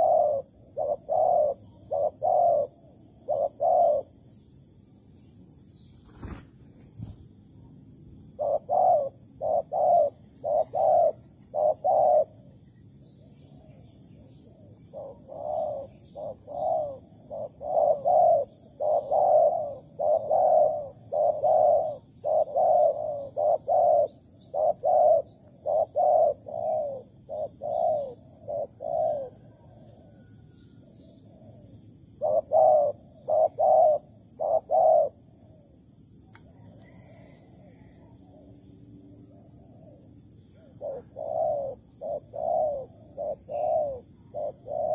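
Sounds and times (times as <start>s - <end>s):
dove cooing: 0.0s - 4.3s, 8.2s - 44.9s.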